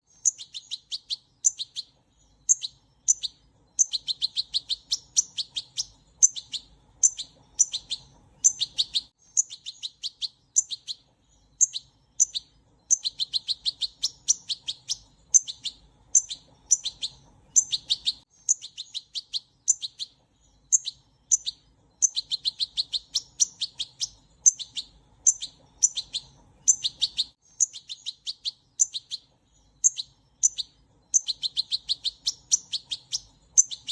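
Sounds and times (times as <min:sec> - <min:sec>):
small bird chirping: 0:00.0 - 0:33.9.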